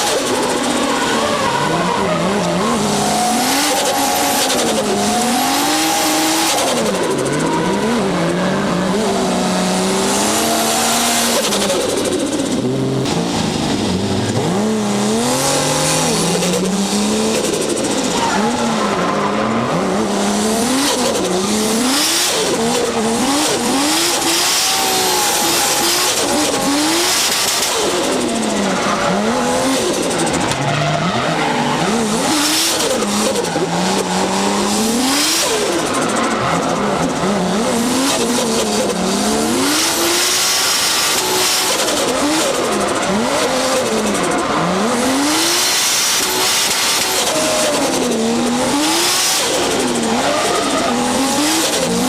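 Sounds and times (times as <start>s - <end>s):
turbocharged car engine revving: 0.0s - 52.0s.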